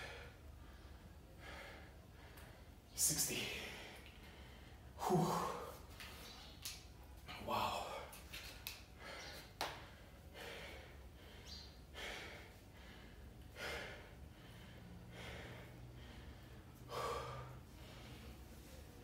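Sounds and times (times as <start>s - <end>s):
man breathing heavily: 0.0s - 6.2s, 7.2s - 19.0s.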